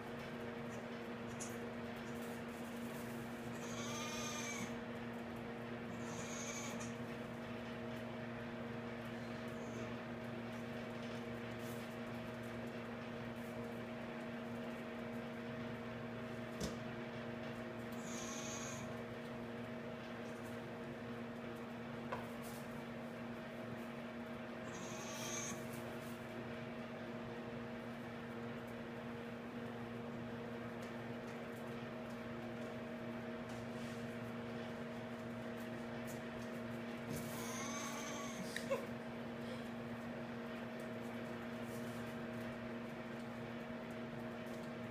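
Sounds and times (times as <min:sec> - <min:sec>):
steady electrical hum: 0:00.0 - 0:44.9.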